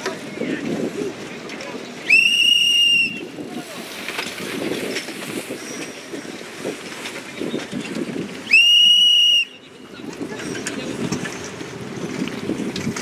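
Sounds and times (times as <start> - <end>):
rush of wind and water: 0.0 - 13.0.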